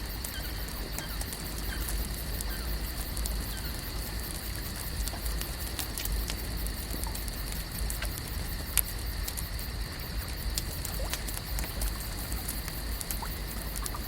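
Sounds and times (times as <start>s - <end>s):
sharp crackles: 0.0s - 14.0s.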